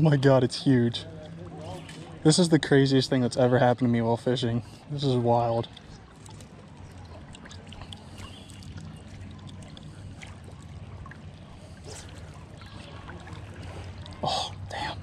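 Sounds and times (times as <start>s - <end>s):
river water lapping: 0.0s - 15.0s.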